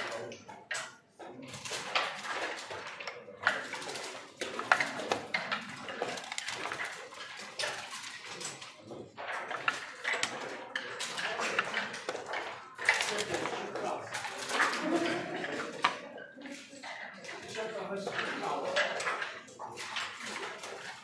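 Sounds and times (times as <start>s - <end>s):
checkers clacking on board: 0.0s - 21.0s.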